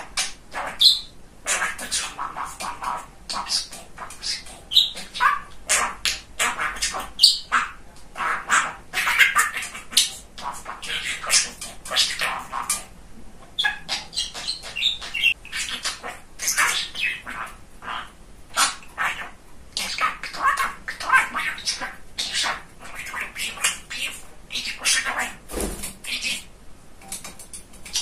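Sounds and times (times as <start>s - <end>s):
budgerigar chattering: 0.0s - 26.5s.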